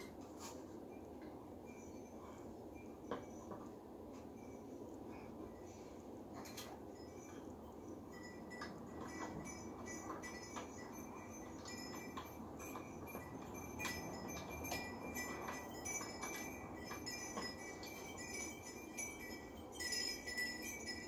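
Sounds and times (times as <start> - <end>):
metallic clinks with ringing: 1.6 - 21.0.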